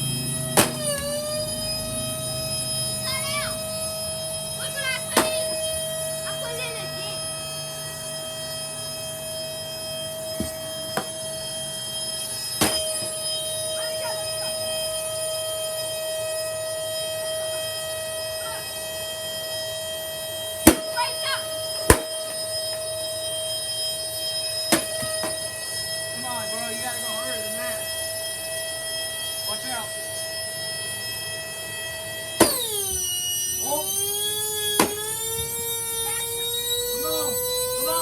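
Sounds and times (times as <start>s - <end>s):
vacuum cleaner motor whine: 0.0s - 38.0s.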